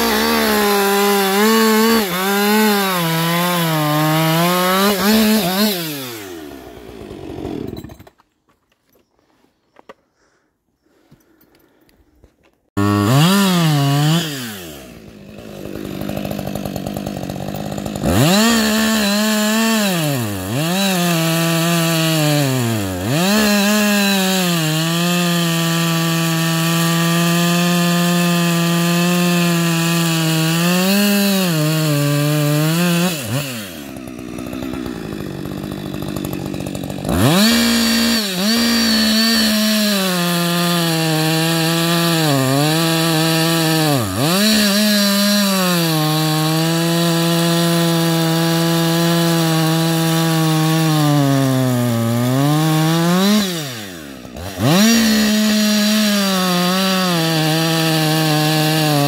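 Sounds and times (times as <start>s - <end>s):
chainsaw cutting wood: 0.0s - 8.4s, 12.7s - 59.0s.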